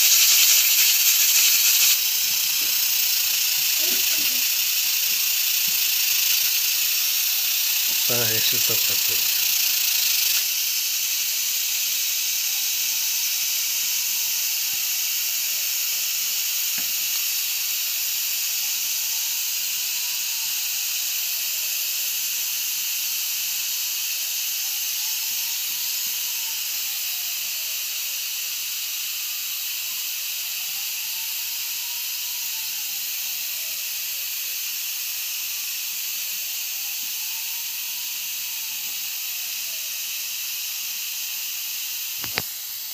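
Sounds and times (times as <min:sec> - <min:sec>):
pressure cooker steam hiss: 0:00.0 - 0:42.9.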